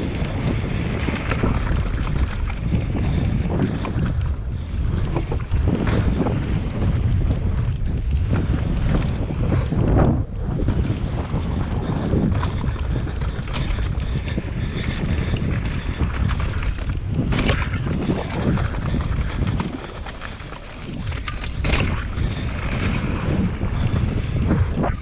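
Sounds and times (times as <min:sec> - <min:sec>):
bike rattling over rough ground: 0:00.0 - 0:25.0
tyre noise: 0:00.0 - 0:25.0
wind buffeting microphone: 0:00.0 - 0:25.0.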